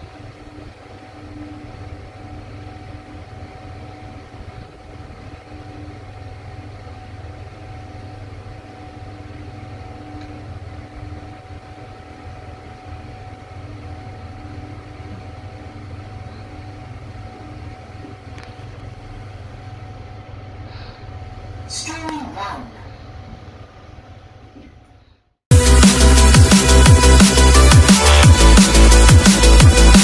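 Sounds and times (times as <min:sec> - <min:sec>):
thin constant whine: 0:00.0 - 0:25.2.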